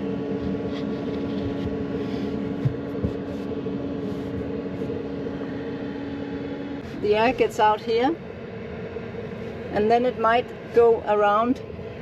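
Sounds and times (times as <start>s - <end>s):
air heater blower hum: 0.0s - 12.0s.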